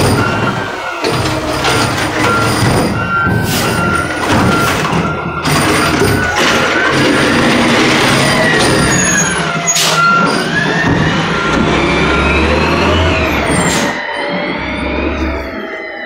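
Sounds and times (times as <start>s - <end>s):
garbage truck diesel engine: 0.0s - 16.0s
hydraulic whine: 0.0s - 16.0s.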